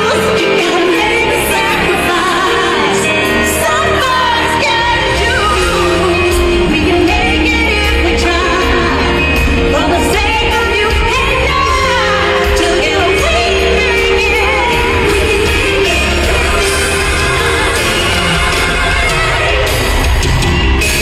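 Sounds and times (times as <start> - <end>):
women singing into microphones: 0.0 - 20.4
loud backing band: 0.0 - 21.0.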